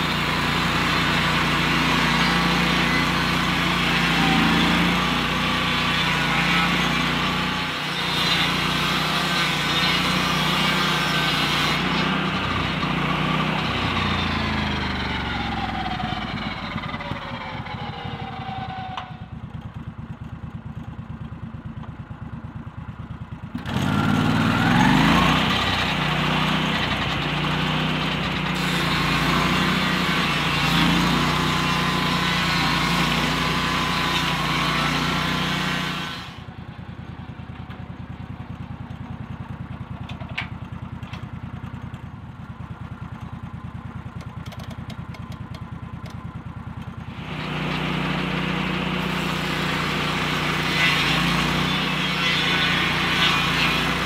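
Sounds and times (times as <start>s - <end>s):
sawmill engine revving and idling: 0.0s - 54.0s.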